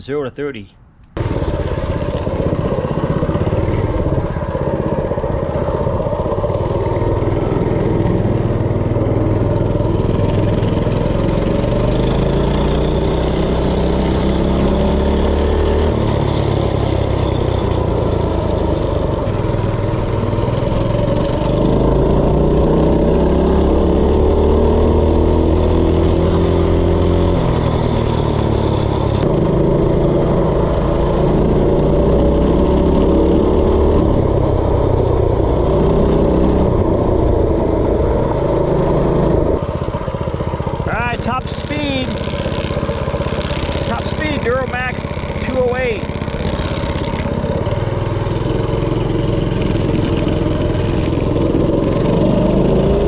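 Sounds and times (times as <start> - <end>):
minibike engine revving: 1.2 - 53.0.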